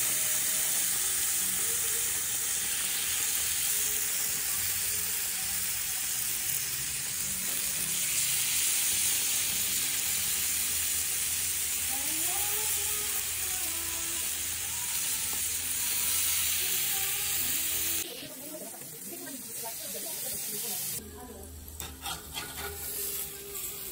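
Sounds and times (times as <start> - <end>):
chicken sizzling on a grill: 0.0 - 23.9.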